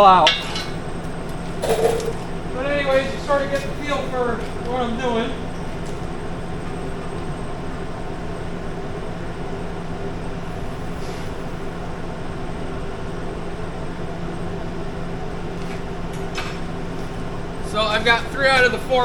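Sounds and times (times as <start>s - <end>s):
mechanical hum with hiss: 0.0s - 19.0s.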